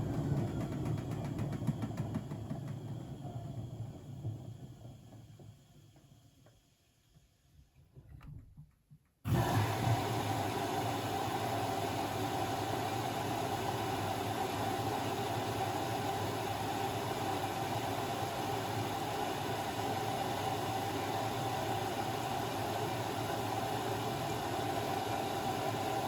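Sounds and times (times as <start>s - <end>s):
washing machine running: 0.0s - 6.4s, 9.3s - 26.0s.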